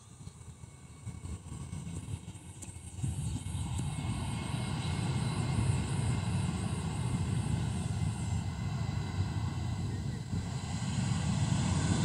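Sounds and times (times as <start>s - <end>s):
airplane engines rumbling: 0.0s - 12.0s
high engine whine: 0.0s - 12.0s.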